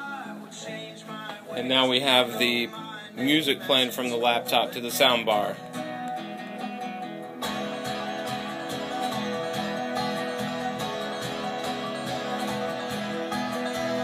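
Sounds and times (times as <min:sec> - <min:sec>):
guitar-led music with beat: 0:00.0 - 0:14.0.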